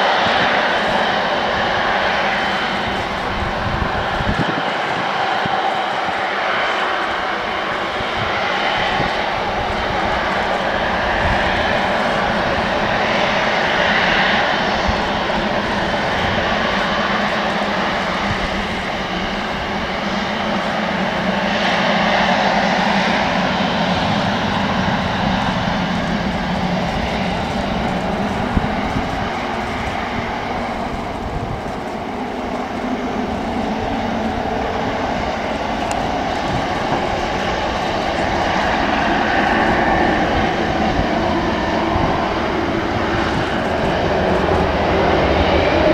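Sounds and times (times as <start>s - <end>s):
jet engines taxiing: 0.0s - 45.9s.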